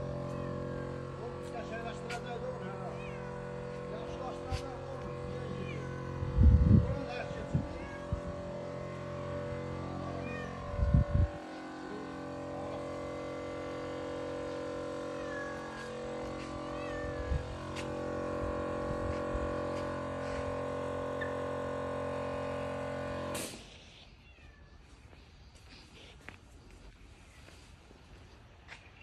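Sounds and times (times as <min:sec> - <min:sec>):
loud low rumble: 0:00.0 - 0:23.2
machine hum: 0:00.0 - 0:23.5.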